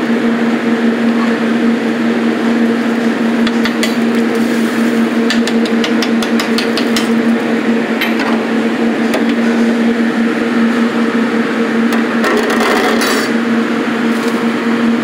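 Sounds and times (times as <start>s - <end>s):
kitchen hum: 0.4s - 15.0s.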